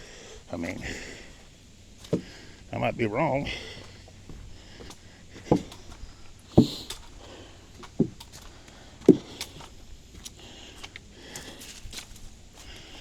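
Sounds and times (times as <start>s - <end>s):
heavy footsteps on trail: 0.0s - 13.0s
dry leaves and twigs crackling: 0.5s - 13.0s.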